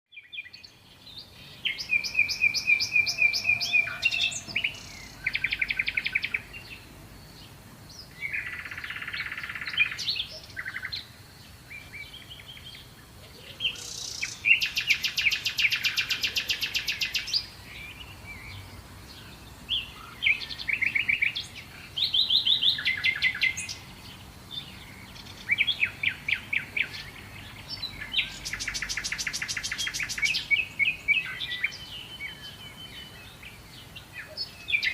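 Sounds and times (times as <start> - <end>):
songbird trills and chirps: 0.1 - 34.9.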